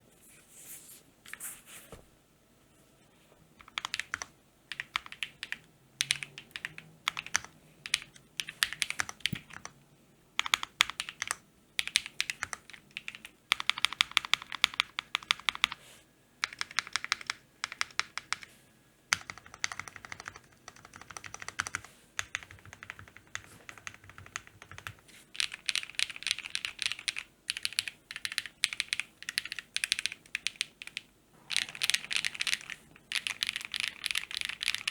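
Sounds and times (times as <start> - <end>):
mechanical keyboard typing: 3.6 - 9.8, 10.4 - 15.8, 16.4 - 18.5, 19.1 - 34.9.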